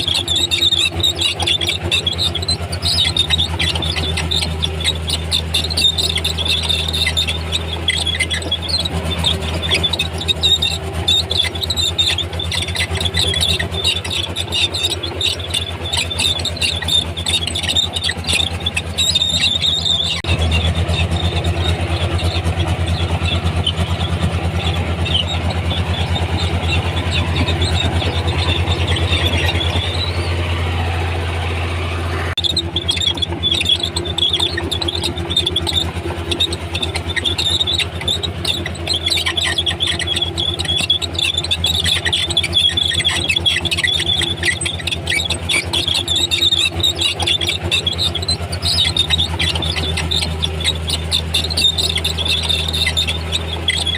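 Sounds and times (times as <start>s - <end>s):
bulldozer diesel engine running: 0.0s - 53.9s
steel tracks squealing: 0.0s - 53.9s.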